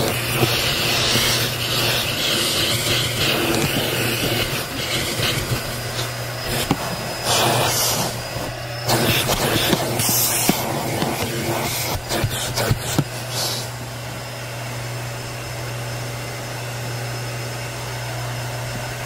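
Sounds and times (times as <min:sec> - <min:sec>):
vacuum cleaner motor hum: 0:00.0 - 0:19.0.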